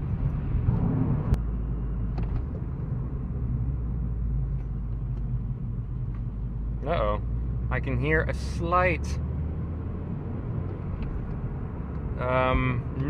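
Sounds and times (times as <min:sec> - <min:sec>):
car engine rumble inside cabin: 0:00.0 - 0:13.0
road noise: 0:00.0 - 0:13.0.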